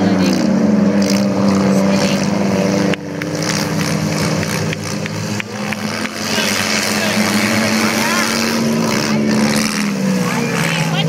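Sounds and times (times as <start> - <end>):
small car engines running: 0.0 - 11.0.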